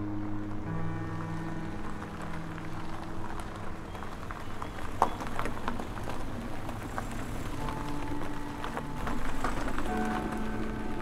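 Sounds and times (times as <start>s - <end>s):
tyres crunching on gravel: 0.6s - 11.0s.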